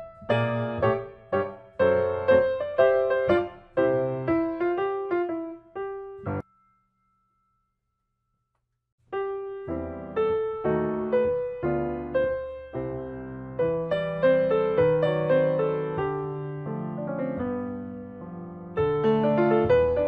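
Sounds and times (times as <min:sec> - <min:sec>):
piano music: 0:00.0 - 0:07.6, 0:09.1 - 0:20.0.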